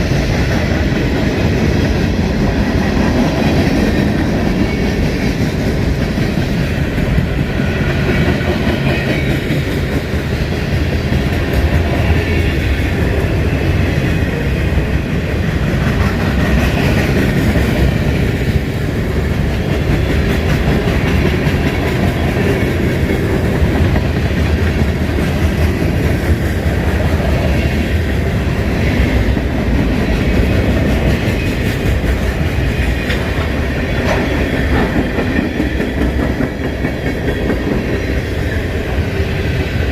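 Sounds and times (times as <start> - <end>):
train wheels clicking over rail joints: 0.0 - 39.8
railroad cars rumbling: 0.0 - 39.9.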